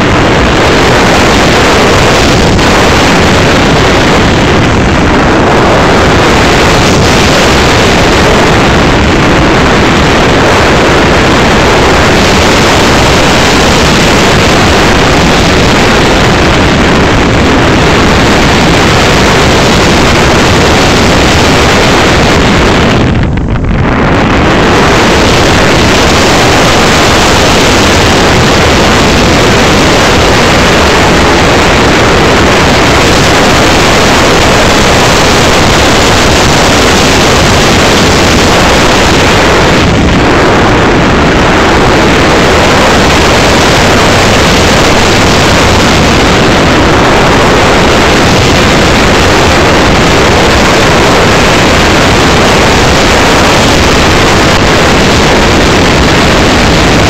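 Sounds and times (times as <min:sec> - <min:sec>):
model jet airflow and motor: 0:00.0 - 0:57.0.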